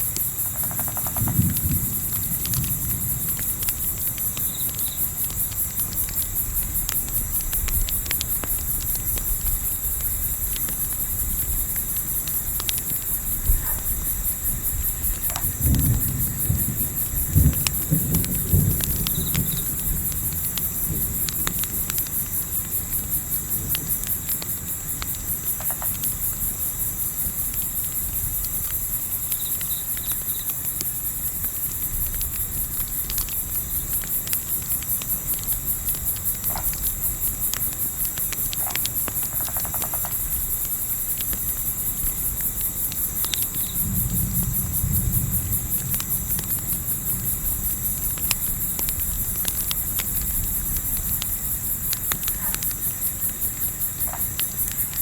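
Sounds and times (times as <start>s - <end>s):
campfire crackling: 0.0s - 55.0s
night insects chirping: 0.0s - 55.0s.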